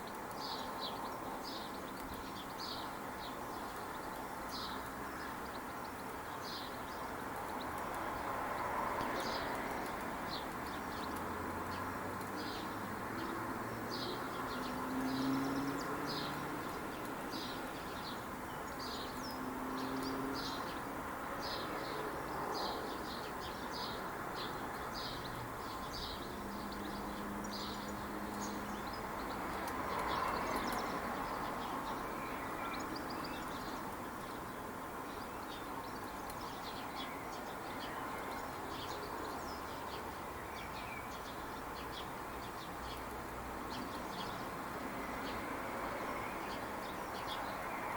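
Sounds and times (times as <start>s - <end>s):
outdoor background noise: 0.0s - 47.9s
small birds chirping: 0.0s - 47.9s.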